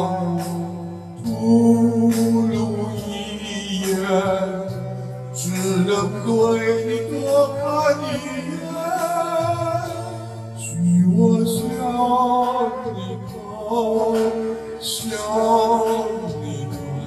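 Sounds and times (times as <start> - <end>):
man singing: 0.0 - 17.0
pop ballad backing band: 0.0 - 17.0.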